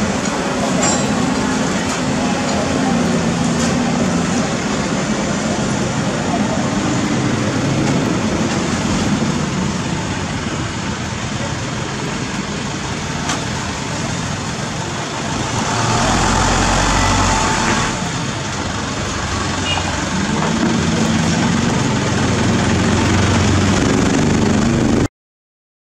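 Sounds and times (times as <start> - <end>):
diesel engines running: 0.0 - 25.1.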